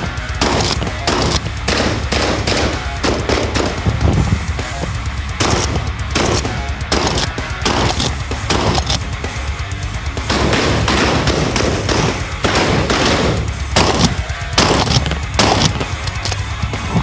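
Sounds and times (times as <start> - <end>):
background music with steady beat: 0.0 - 17.0
rapid gunshots: 0.0 - 17.0.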